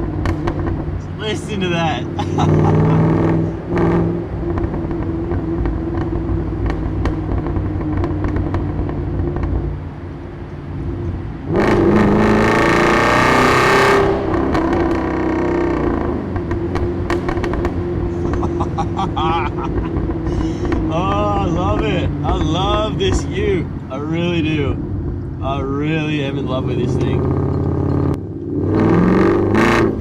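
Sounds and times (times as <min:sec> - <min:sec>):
vee eight engine exhaust revving: 0:00.0 - 0:30.0.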